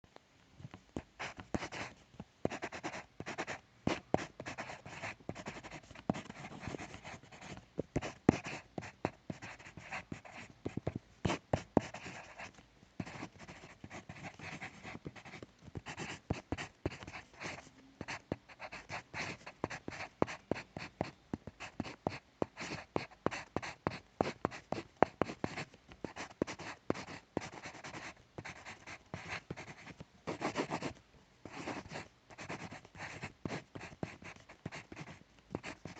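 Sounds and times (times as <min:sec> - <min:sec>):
pencil writing on paper: 0:01.0 - 0:35.9.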